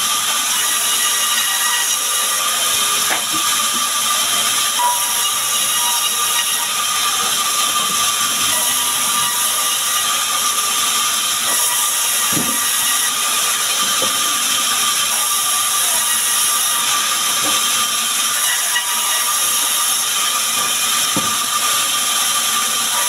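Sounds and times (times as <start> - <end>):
band saw cutting logs: 0.0 - 23.0.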